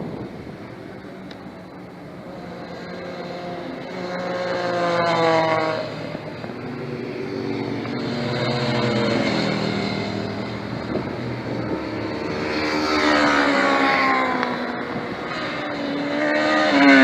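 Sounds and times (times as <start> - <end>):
another motorcycle engine: 0.0 - 17.0
racing motorcycle passing: 0.0 - 17.0.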